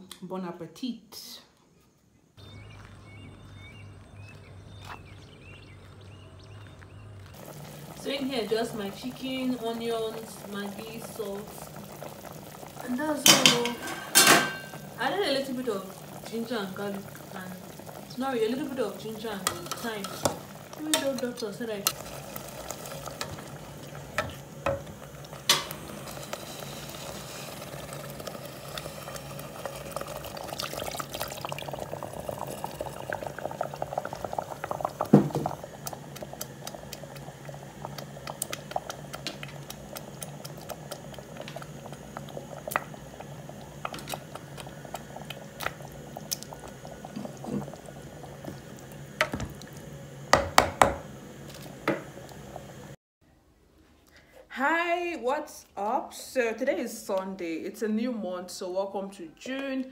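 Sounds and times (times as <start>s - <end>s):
stew bubbling in a pot: 2.4s - 53.0s.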